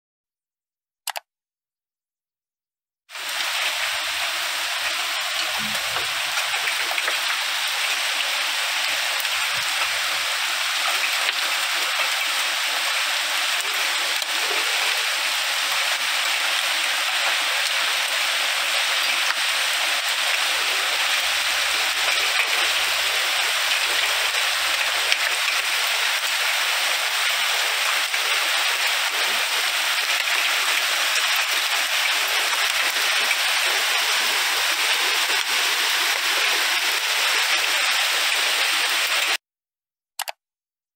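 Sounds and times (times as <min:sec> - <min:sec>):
heavy rain on trees and grass: 0:03.1 - 0:39.4.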